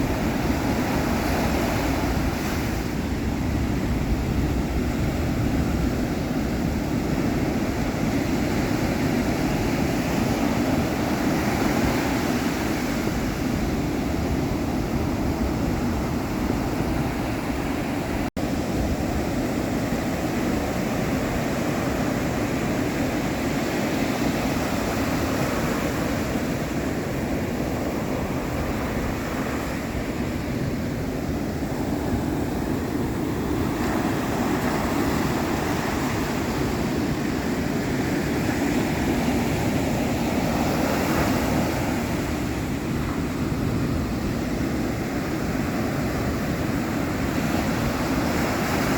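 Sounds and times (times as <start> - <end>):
ocean waves: 0.0 - 48.9.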